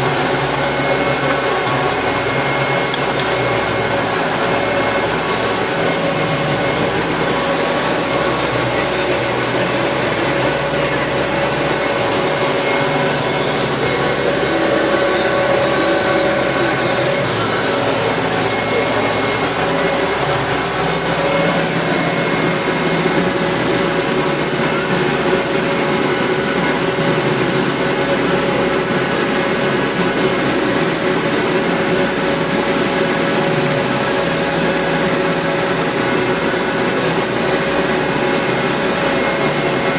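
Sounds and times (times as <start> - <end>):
faint steady whine: 0.0 - 39.9
tractor engine drone: 0.0 - 39.9.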